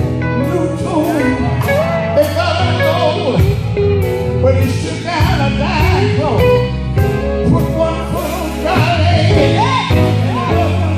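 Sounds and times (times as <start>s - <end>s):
amplified instrumental backing: 0.0s - 10.9s
bass notes: 0.0s - 10.9s
man singing gospel: 0.0s - 10.9s.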